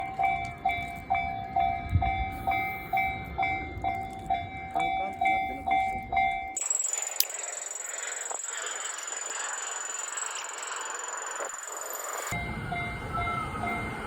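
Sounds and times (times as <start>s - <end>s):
level-crossing warning bell ringing: 0.0s - 14.0s.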